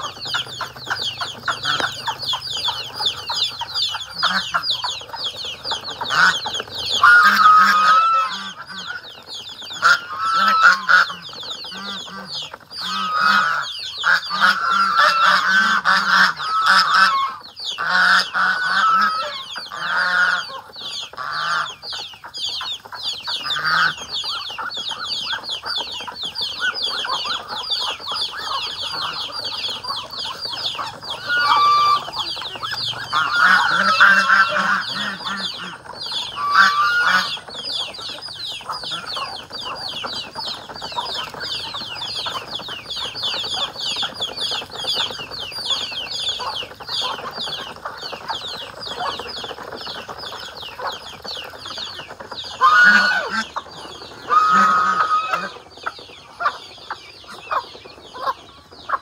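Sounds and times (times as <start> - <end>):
fast high chirping: 0.0 - 14.7, 20.4 - 59.0
chickens clucking: 0.0 - 59.0
geese honking: 0.0 - 59.0.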